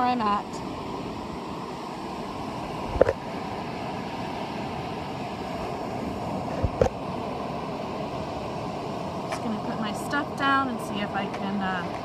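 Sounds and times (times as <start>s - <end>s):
ocean surf: 0.0s - 12.0s
wind: 0.0s - 12.0s.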